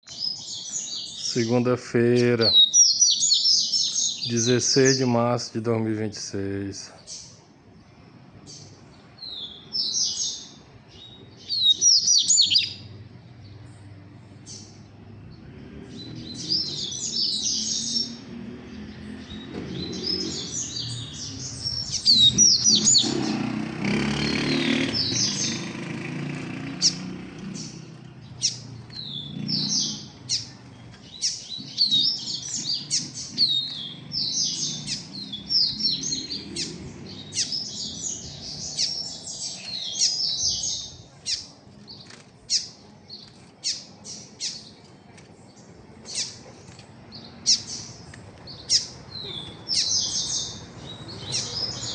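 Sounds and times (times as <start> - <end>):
birds twittering song: 0.0 - 51.9.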